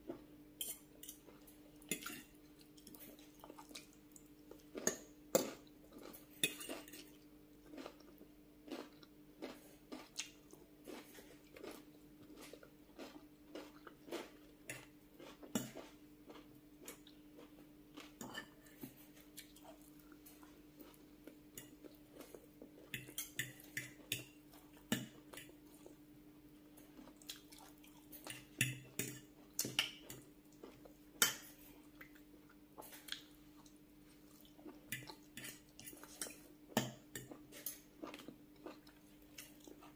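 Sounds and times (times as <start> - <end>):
eating and chewing: 0.0 - 39.9
faint steady hum: 0.0 - 39.9.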